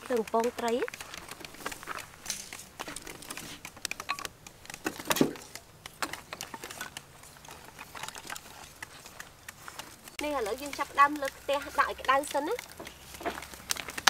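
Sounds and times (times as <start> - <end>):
wooden sticks clattering: 0.0 - 14.0.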